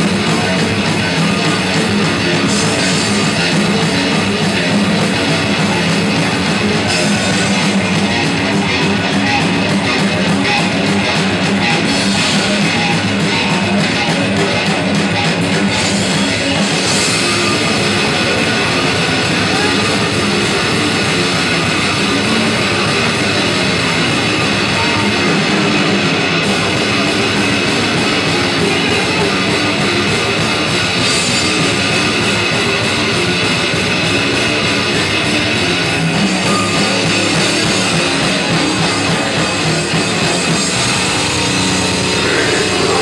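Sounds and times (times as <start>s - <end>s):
distorted electric guitars: 0.0s - 43.0s
drum kit: 0.0s - 43.0s.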